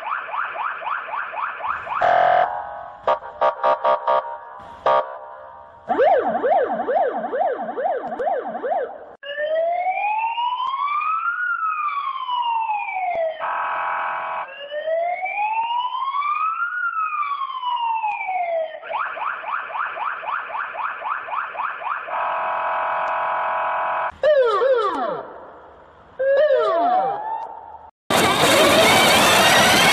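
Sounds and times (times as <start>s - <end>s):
electronic police siren: 0.0s - 5.3s, 5.9s - 25.5s, 26.2s - 29.9s.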